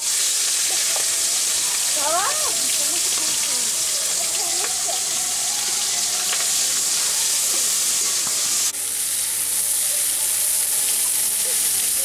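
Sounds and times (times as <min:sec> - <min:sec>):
prawns sizzling in a wok: 0:00.0 - 0:12.0.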